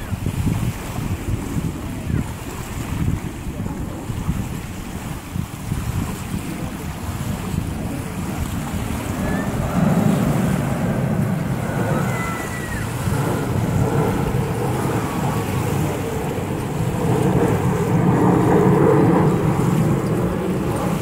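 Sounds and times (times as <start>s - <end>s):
small waves lapping shore: 0.0s - 21.0s
wind buffeting microphone: 0.0s - 21.0s.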